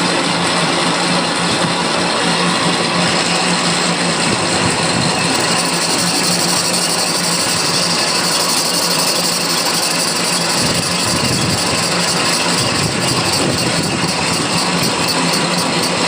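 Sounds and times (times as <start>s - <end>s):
metal lathe turning: 0.0s - 16.0s.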